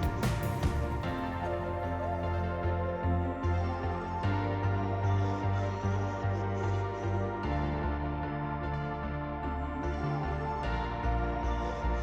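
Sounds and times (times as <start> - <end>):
ambient synthesizer chords: 0.0 - 12.0
bass line: 0.0 - 12.0.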